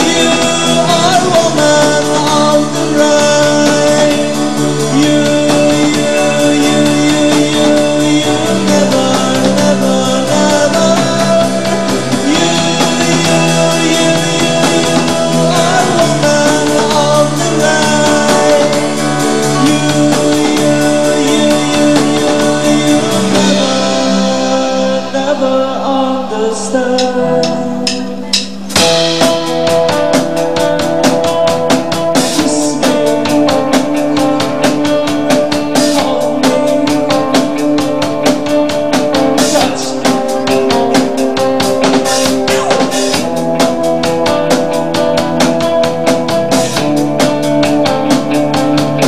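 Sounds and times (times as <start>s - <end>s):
high cymbal beat: 0.0s - 25.7s, 26.9s - 49.0s
bass: 0.0s - 49.0s
drum kit: 0.0s - 49.0s
electric guitar: 0.0s - 49.0s
person singing: 0.0s - 49.0s.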